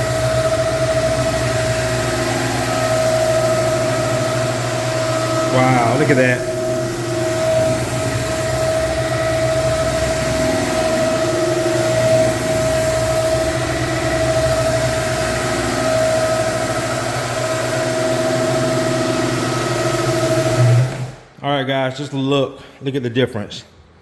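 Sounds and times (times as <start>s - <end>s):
floor-cleaning machine whining: 0.0s - 21.4s.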